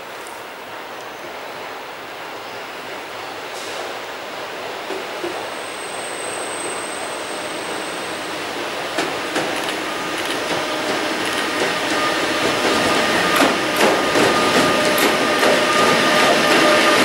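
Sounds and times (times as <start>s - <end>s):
electric locomotive whine and rumble: 0.2s - 17.0s.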